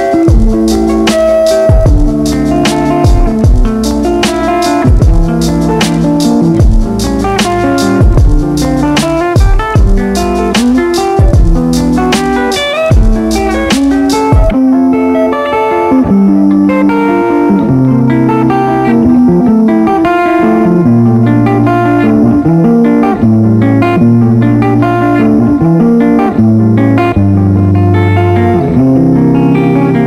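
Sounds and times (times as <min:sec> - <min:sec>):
guitar instrumental music: 0:00.0 - 0:30.0.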